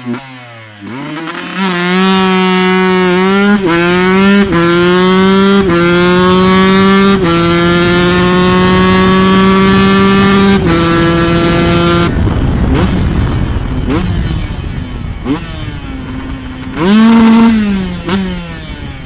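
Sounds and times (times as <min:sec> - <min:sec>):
two-stroke motorcycle revving: 0:00.0 - 0:19.0.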